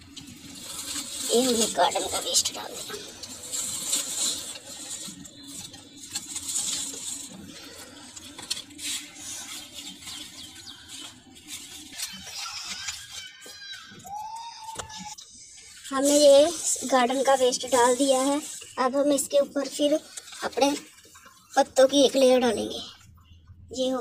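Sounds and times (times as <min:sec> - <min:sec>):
dry leaves rustling and crackling: 0:00.0 - 0:22.4.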